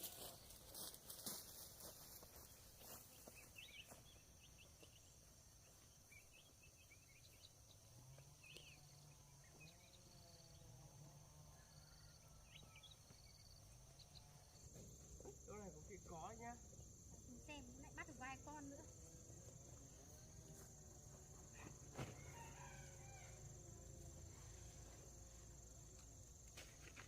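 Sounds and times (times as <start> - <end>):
high insect drone: 0.0 - 27.0.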